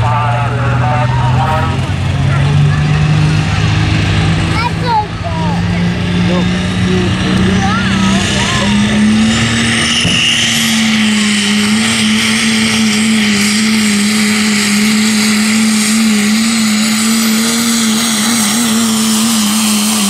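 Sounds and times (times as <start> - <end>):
diesel truck engine at full throttle: 0.0 - 20.0.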